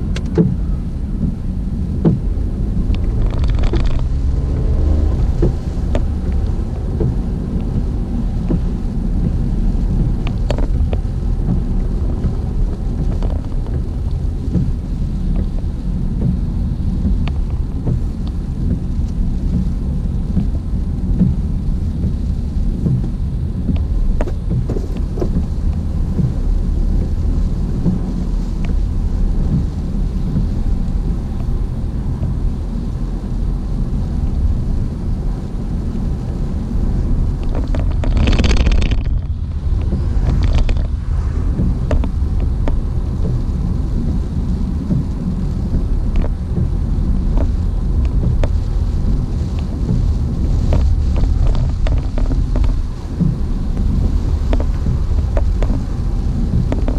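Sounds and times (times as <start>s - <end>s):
road and rain rumble: 0.0s - 56.9s.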